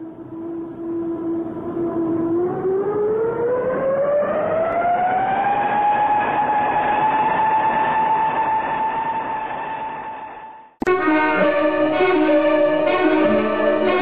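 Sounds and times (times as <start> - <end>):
siren-like electronic whine: 0.0 - 14.0.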